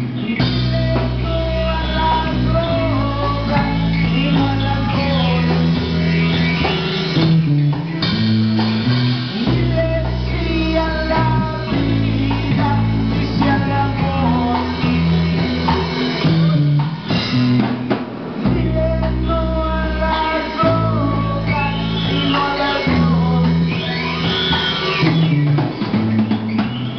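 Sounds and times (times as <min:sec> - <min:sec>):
man singing: 0:00.0 - 0:16.9, 0:18.4 - 0:25.6
bass guitar: 0:00.0 - 0:26.9
drum kit: 0:00.0 - 0:26.9
electric guitar: 0:00.0 - 0:26.9.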